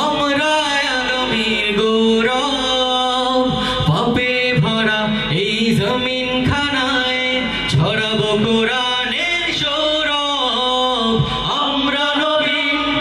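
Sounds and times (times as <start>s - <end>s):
men singing together: 0.0s - 13.0s.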